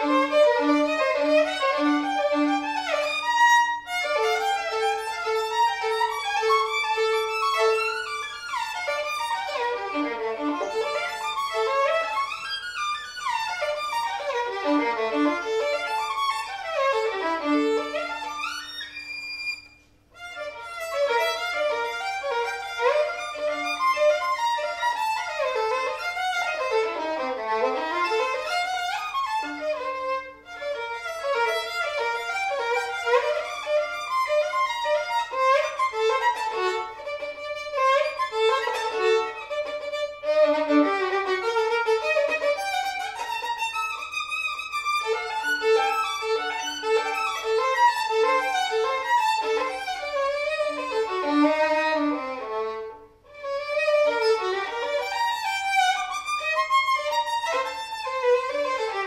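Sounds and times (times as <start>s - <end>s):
violin playing fast passages: 0.0s - 59.0s.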